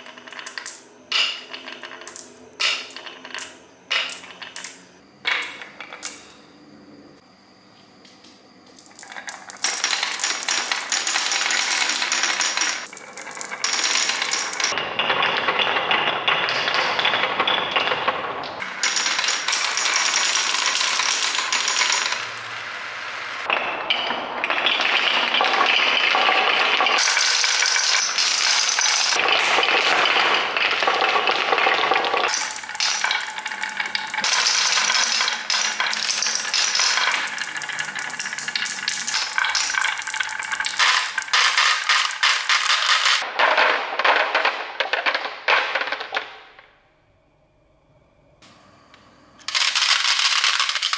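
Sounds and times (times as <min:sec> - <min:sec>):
marbles rolling and clattering: 0:00.0 - 0:06.2, 0:08.7 - 0:46.7, 0:49.5 - 0:50.9.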